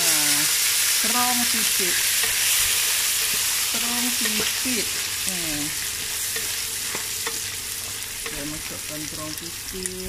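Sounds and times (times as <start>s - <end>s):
vegetables sizzling in oil: 0.0s - 10.0s
spatula stirring in wok: 0.2s - 9.6s.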